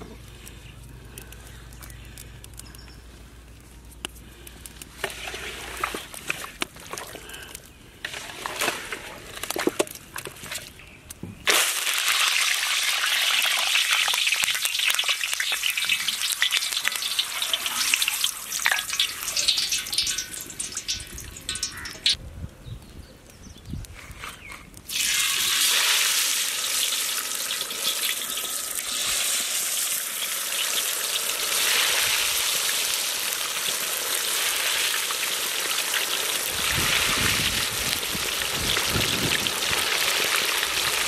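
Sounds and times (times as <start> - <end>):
hot oil sizzling and crackling: 4.2 - 22.2, 24.8 - 41.0.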